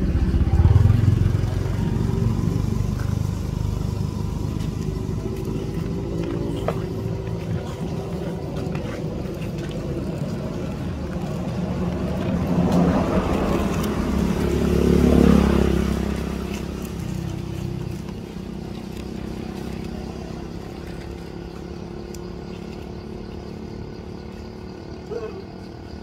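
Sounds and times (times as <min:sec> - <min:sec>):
vehicle engine passing: 0:00.0 - 0:26.0.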